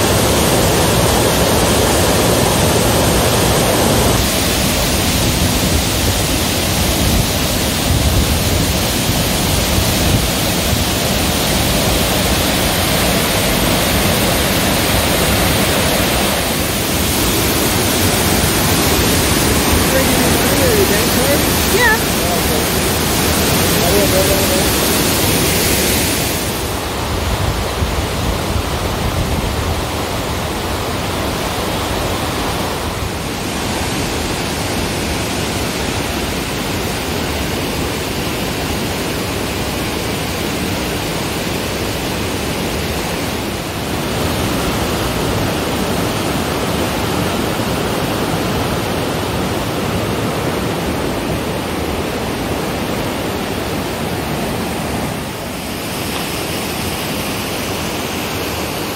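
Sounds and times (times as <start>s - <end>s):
raging waterfall: 0.0s - 58.9s
rushing creek: 0.0s - 58.9s.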